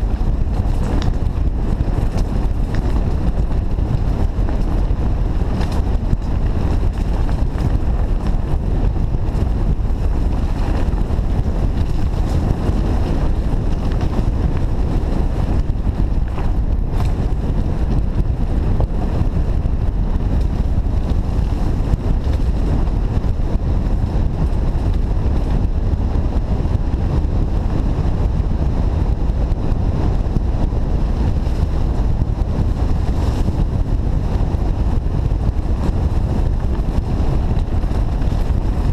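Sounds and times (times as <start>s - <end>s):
bike rattles and clicks: 0.0s - 38.9s
knobby tyres rolling on dirt: 0.0s - 38.9s
wind rumble on microphone: 0.0s - 38.9s.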